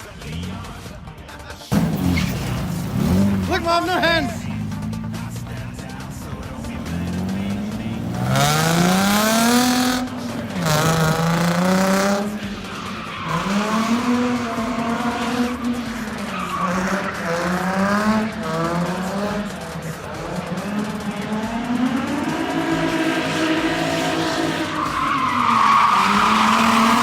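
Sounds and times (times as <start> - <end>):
tyres squealing: 1.6 - 20.5, 22.7 - 27.0
car engine revving hard: 1.7 - 27.0.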